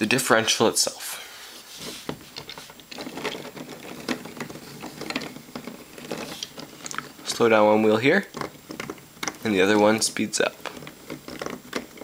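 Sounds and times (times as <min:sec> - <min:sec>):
plastic gears clicking and rattling: 0:02.4 - 0:12.0.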